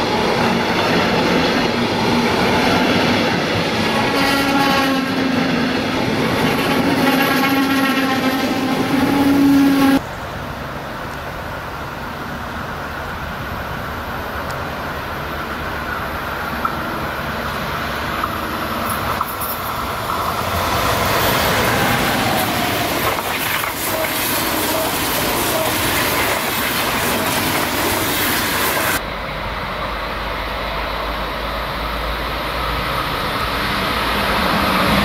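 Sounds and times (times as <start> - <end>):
high-speed train passing: 0.0 - 35.0.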